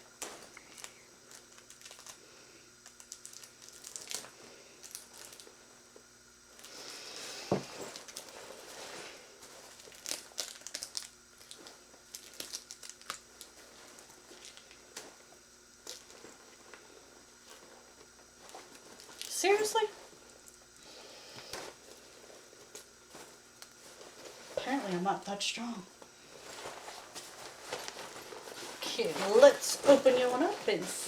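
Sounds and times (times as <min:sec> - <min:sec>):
packaging crinkling: 0:00.0 - 0:25.3, 0:26.0 - 0:31.0.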